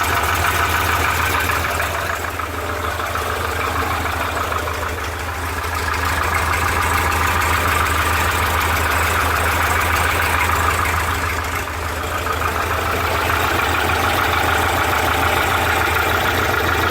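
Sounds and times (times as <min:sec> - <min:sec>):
car engine idling: 0:00.0 - 0:16.9
engine rattling knock: 0:00.0 - 0:16.9.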